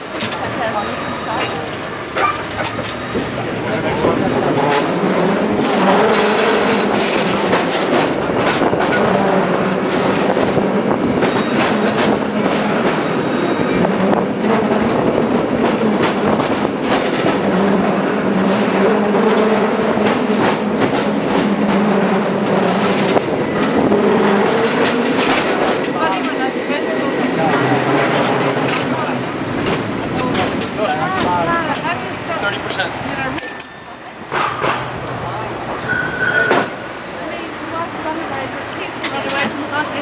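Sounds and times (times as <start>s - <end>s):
cable car clattering on track: 0.0s - 36.9s, 37.7s - 40.0s
cable car low hum: 0.0s - 40.0s.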